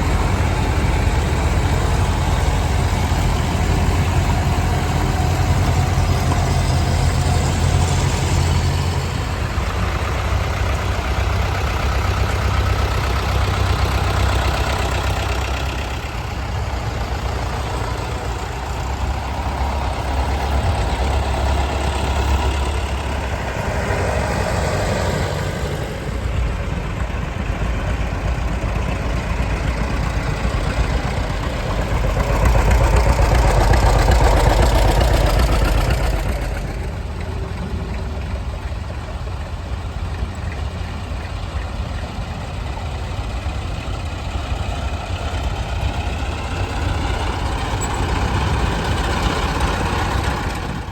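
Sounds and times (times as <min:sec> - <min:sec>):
tractor engines running at low revs: 0:00.0 - 0:50.9.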